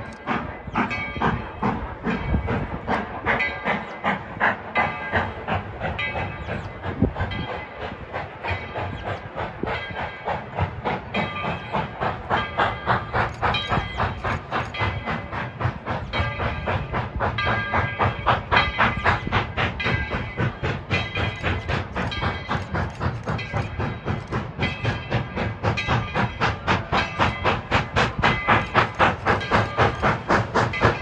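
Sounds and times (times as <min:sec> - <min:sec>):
steam hissing: 0:00.0 - 0:31.0
steam locomotive exhaust chuffing: 0:00.0 - 0:31.0.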